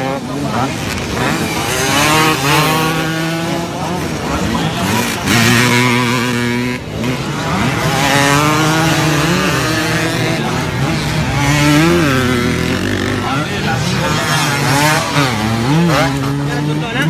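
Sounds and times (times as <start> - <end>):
motocross engines with throttle blips: 0.0 - 17.0.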